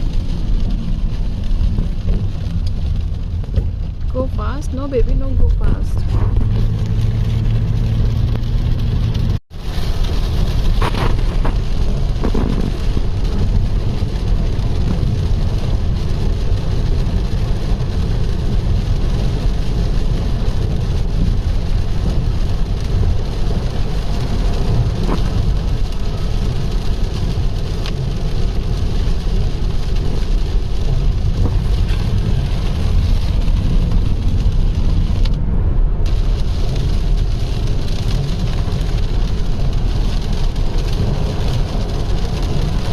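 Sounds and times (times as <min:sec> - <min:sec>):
car road and engine rumble: 0:00.0 - 0:42.9
rain hissing on car: 0:00.0 - 0:42.9.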